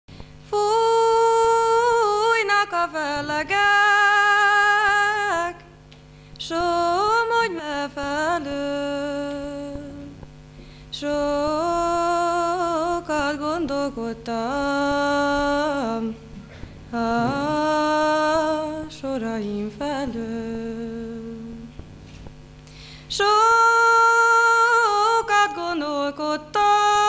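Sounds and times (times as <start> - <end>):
woman singing: 0.5 - 5.7, 6.4 - 10.2, 10.9 - 21.7, 23.1 - 27.0.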